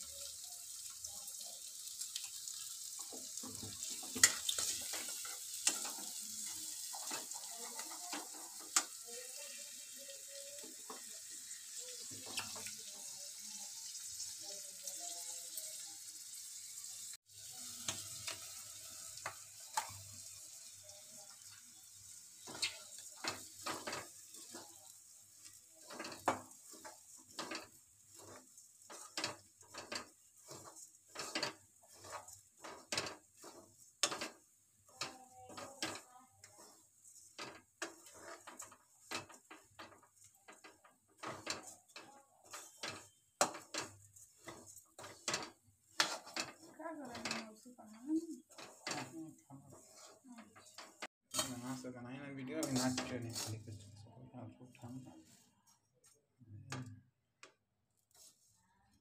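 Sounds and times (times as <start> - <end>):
peas frying and sizzling: 0.0 - 59.0
metal spoon scraping pan: 2.2 - 14.6, 17.6 - 51.9, 52.5 - 53.6.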